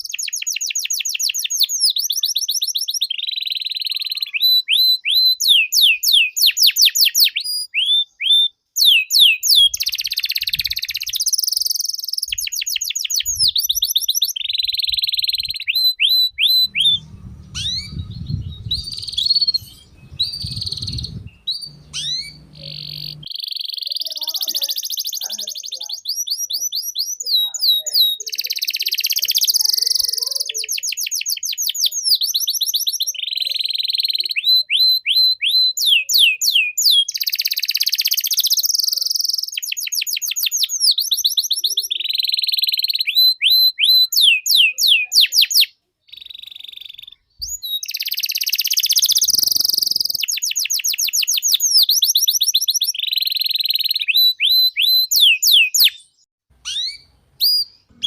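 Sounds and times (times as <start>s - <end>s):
canary singing rapid trills: 0.0s - 58.0s.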